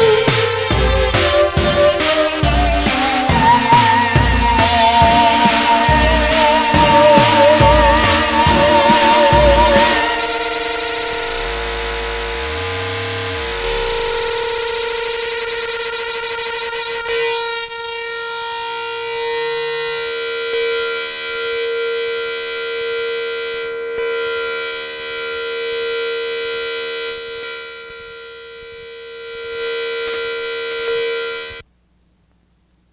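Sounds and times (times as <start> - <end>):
held droning tone: 0.0 - 31.6.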